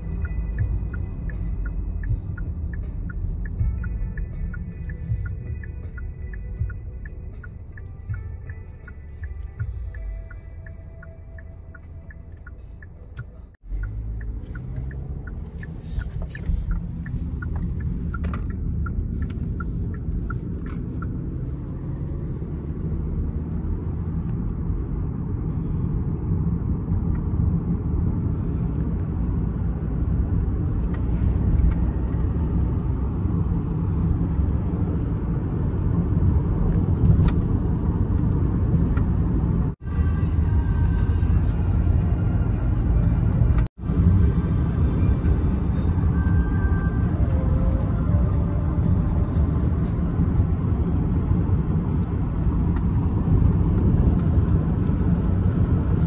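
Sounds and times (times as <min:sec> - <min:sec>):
car driving on road rumble: 0:00.0 - 0:56.0.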